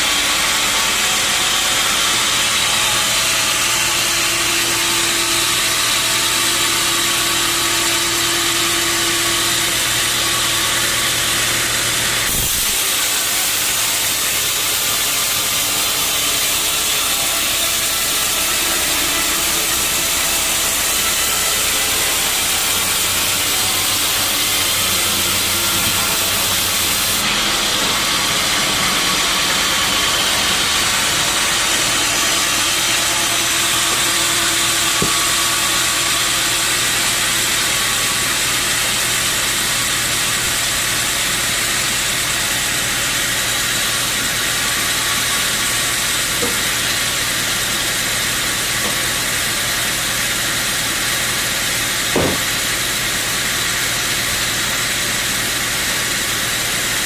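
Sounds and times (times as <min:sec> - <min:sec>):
saw blade cutting log: 0:00.0 - 0:57.0
sawmill saw running: 0:00.0 - 0:57.0.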